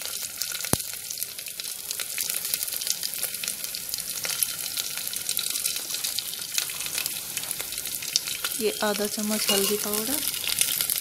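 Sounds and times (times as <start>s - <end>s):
onion and garlic frying in oil: 0.0s - 11.0s.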